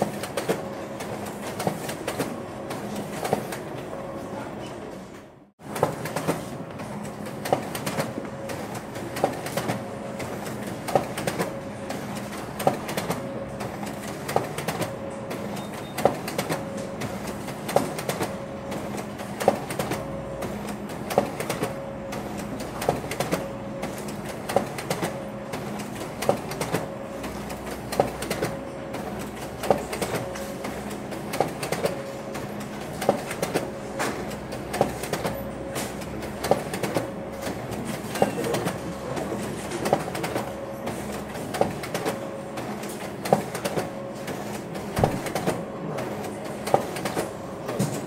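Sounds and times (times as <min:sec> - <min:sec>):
photocopier humming: 0:00.0 - 0:48.0.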